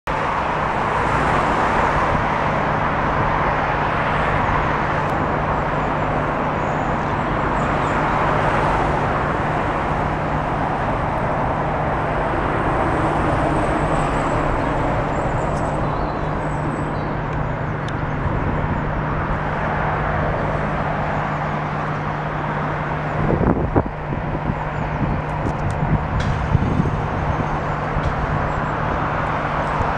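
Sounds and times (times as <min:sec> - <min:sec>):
cars passing close by: 0:00.1 - 0:29.9.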